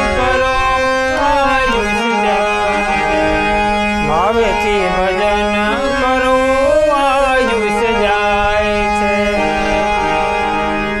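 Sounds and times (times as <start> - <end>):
person singing ornamented phrase: 0.0 - 3.4, 4.0 - 10.7
harmonium drone chord: 0.0 - 11.0.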